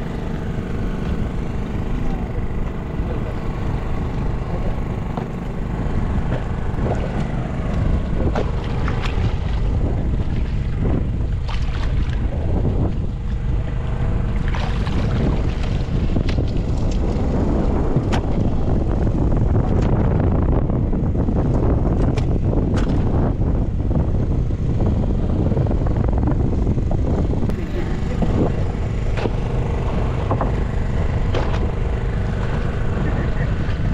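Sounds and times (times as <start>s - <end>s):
boat engine rumbling: 0.0s - 33.9s
wind on microphone: 0.0s - 33.9s.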